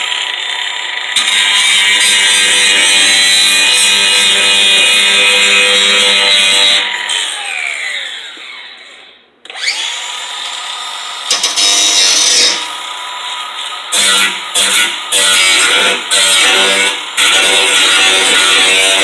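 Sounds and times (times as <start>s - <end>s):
electric power tool running: 0.0s - 4.2s, 6.6s - 19.0s.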